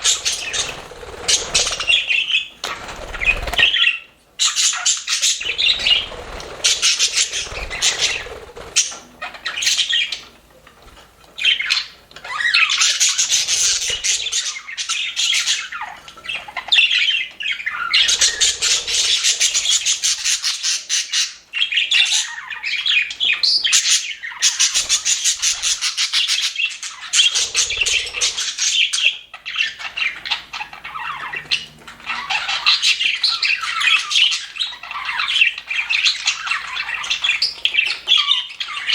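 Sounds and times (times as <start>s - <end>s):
budgerigars chirping: 0.0s - 10.3s, 11.4s - 38.9s.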